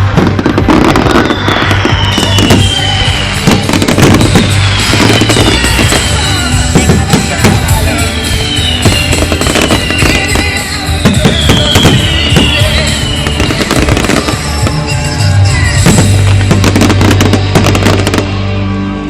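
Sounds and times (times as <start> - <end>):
fireworks falling whistles: 0.0 - 18.5
fireworks bangs and crackles: 0.0 - 18.6
loud music: 0.0 - 19.0.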